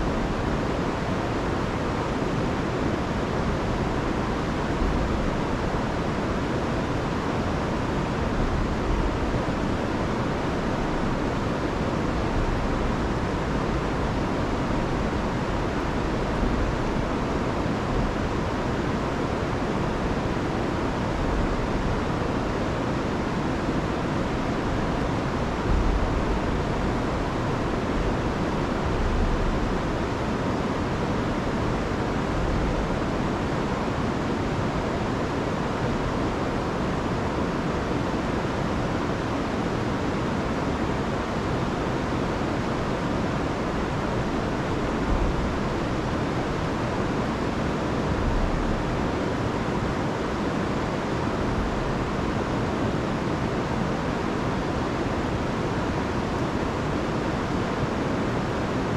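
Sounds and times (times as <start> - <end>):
water rushing over waterfall: 0.0 - 58.9.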